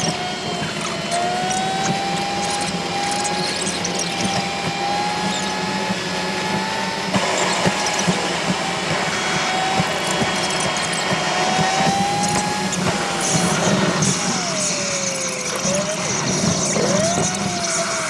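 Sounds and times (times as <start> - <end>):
clicks: 0.0 - 18.0
mechanical whine: 0.0 - 18.0.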